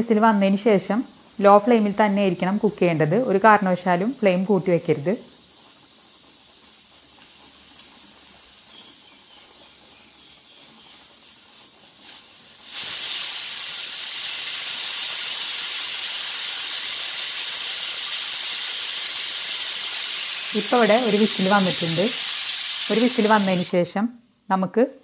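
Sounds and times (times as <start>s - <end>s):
pressure cooker sputtering: 0.0s - 23.8s
pressure cooker steam hissing: 0.0s - 23.9s.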